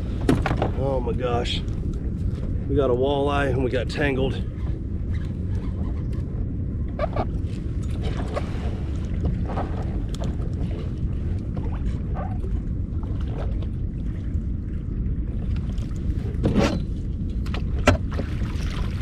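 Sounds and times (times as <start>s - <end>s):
low rumble of water: 0.0s - 19.0s
wind noise on microphone: 0.0s - 19.0s.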